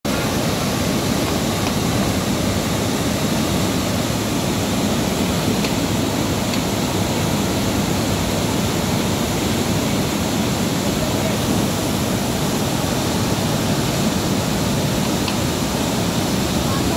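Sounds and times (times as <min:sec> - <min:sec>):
river water roaring: 0:00.0 - 0:16.9.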